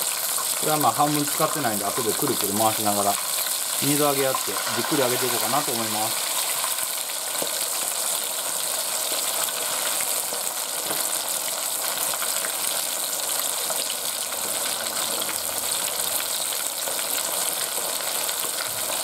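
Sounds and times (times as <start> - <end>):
fish deep-frying in oil: 0.0 - 19.0.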